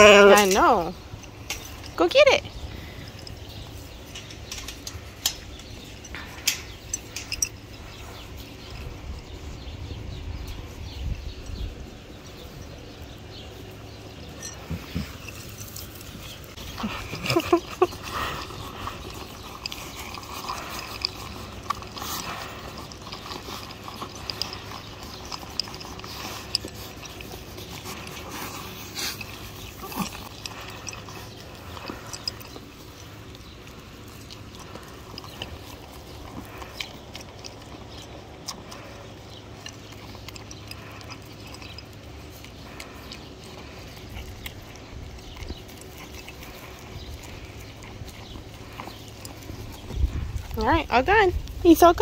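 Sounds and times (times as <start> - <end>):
sheep crunching pellets: 0.0 - 52.0.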